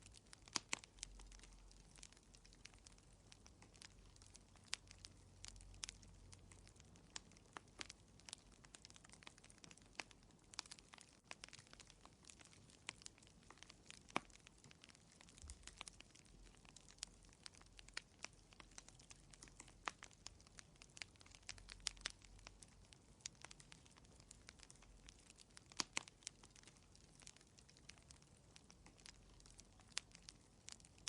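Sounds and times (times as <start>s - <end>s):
faint low rumble: 0.0s - 31.0s
wood fire crackling: 0.0s - 31.0s.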